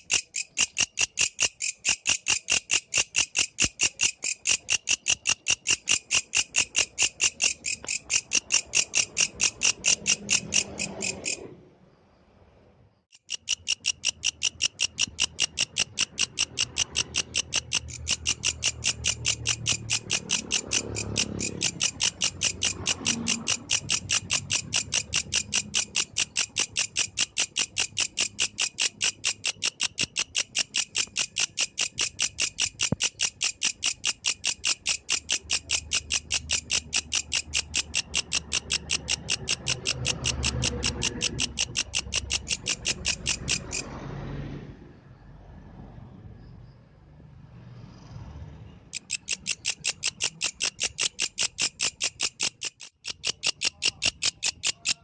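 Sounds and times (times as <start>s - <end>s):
grasshopper buzzy pulses: 0.0s - 11.5s, 13.2s - 43.9s, 49.0s - 55.0s.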